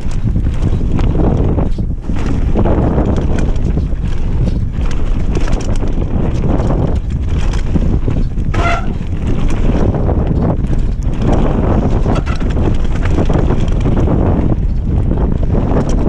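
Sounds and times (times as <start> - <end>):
bike rattling over bumps: 0.0 - 16.0
tyres rumbling on dirt: 0.0 - 16.0
wind buffeting microphone: 0.0 - 16.0.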